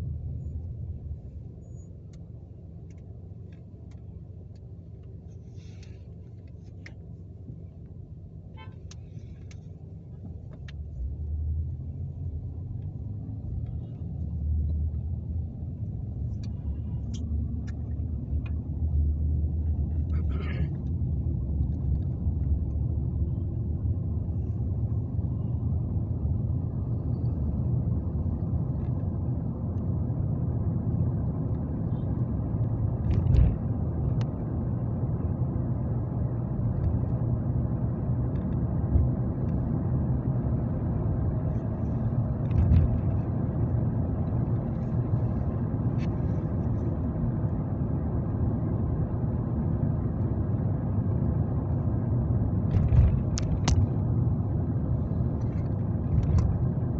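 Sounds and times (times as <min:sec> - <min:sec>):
vehicle engine and tyres rumbling: 0:00.0 - 0:56.9.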